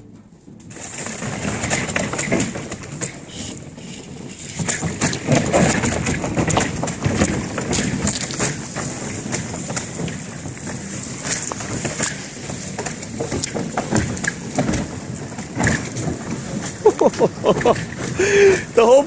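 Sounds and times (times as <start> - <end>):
ice breaking against boat hull: 0.7 - 18.8.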